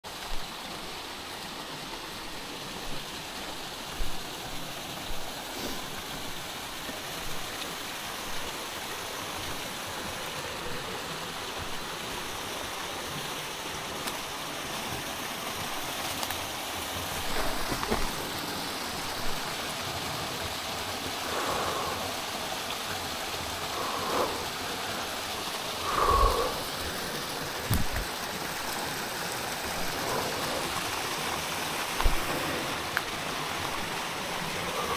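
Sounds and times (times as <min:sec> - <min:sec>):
stream flowing over stones: 0:00.0 - 0:34.9.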